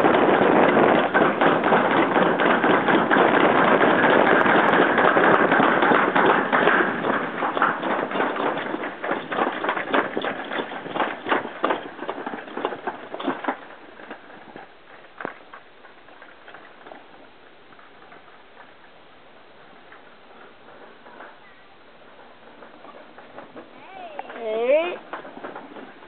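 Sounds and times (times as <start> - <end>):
sled rattling down metal slide: 0.0 - 26.0.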